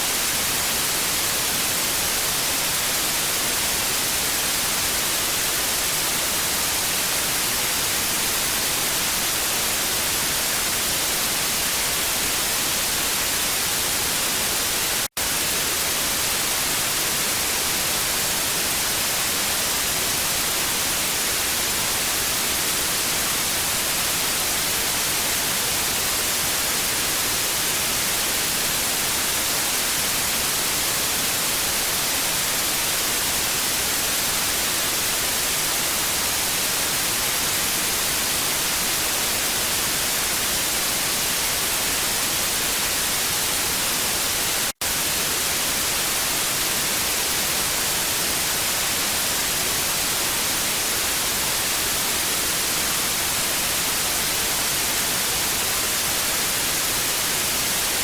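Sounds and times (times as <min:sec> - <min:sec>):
tv static hiss: 0:00.0 - 0:58.0.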